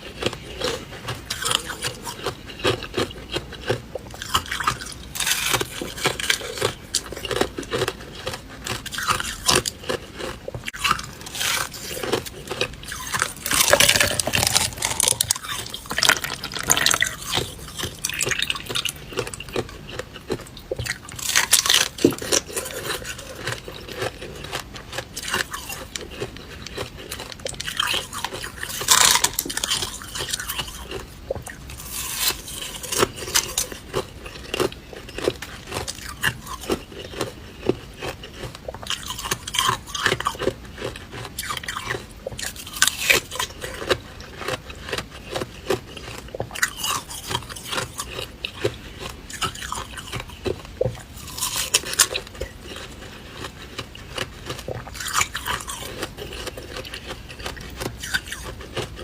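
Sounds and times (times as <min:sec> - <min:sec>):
chewing ice crunching: 0:00.0 - 0:59.0.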